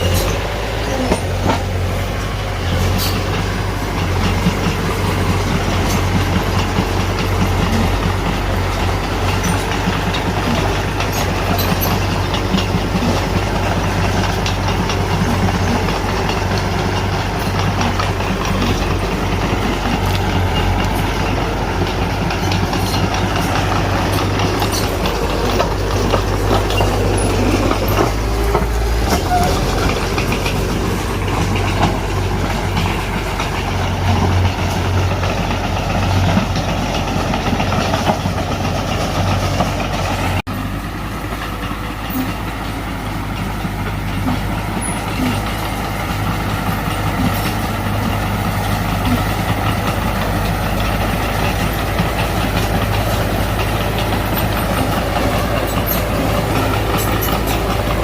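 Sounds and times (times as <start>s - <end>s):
bulldozer diesel engine under load: 0.0s - 58.0s
steel tracks clattering: 0.0s - 58.0s.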